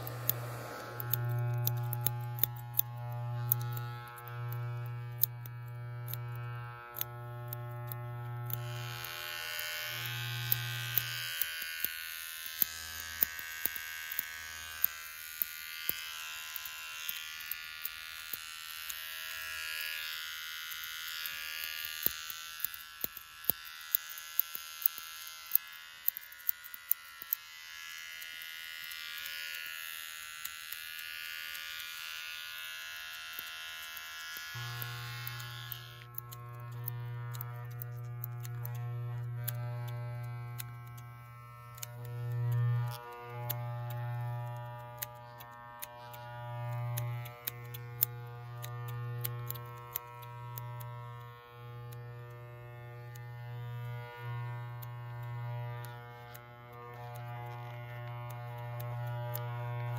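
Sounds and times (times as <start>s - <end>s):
sharp clicks: 0.0s - 27.6s, 28.2s - 59.9s
electric shaver whirring: 0.0s - 59.9s
hair clippers buzzing: 0.0s - 59.9s.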